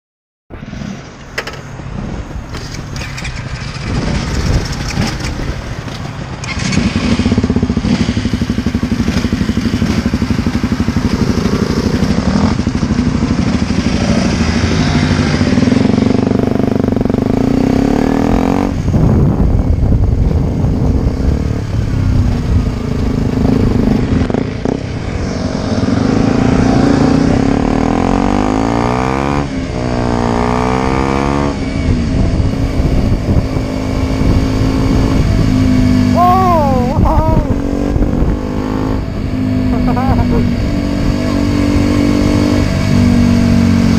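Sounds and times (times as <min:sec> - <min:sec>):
motorcycle engine revving: 0:02.6 - 0:43.9.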